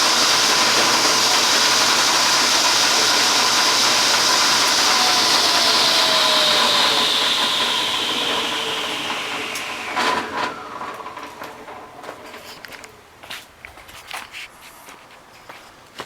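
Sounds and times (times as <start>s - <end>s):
table saw whining: 0.0s - 13.0s.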